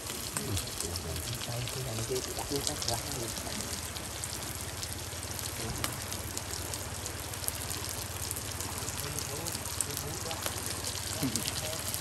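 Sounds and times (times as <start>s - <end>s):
wood fire crackles: 0.0s - 12.0s.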